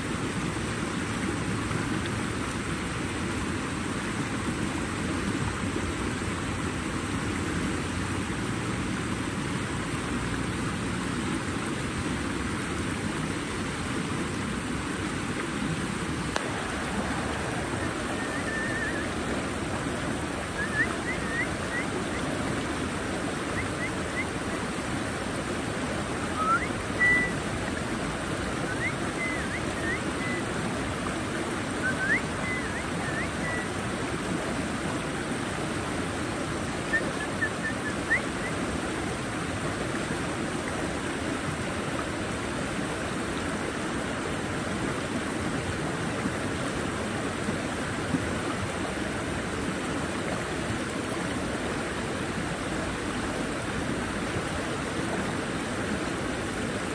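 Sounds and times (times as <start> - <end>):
stream water flowing: 0.0 - 56.9.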